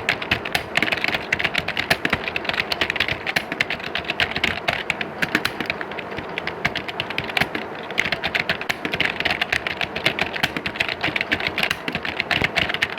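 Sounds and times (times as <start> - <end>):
keyboard typing clatter: 0.0 - 12.9.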